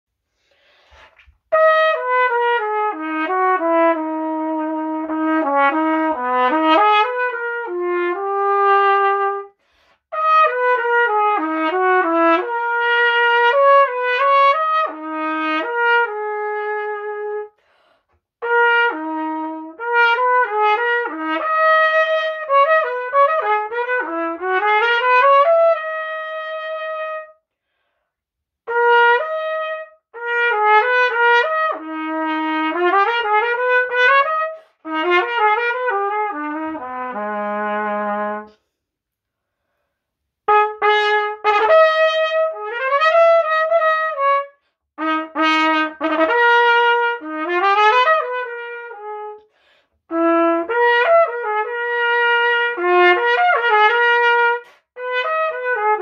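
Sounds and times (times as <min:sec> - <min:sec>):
trumpet playing melody: 0:01.2 - 0:17.6, 0:18.4 - 0:27.4, 0:28.6 - 0:38.6, 0:40.4 - 0:56.0.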